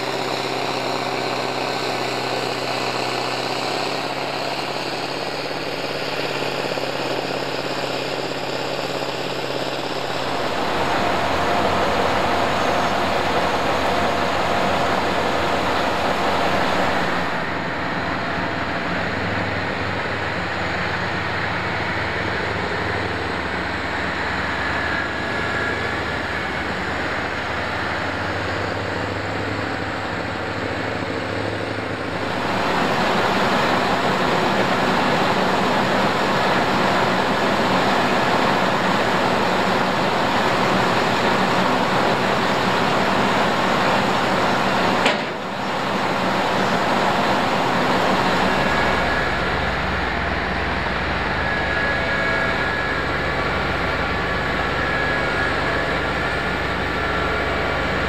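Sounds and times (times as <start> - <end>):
snow blower engine and rotor din: 0.0 - 58.0.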